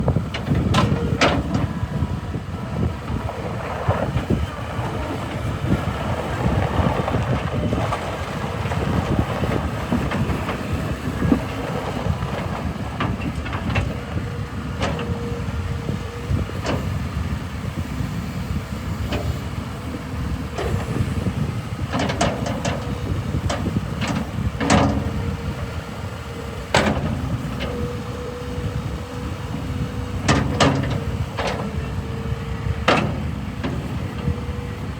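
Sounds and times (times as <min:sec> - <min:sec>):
skid steer running: 0:00.0 - 0:34.9.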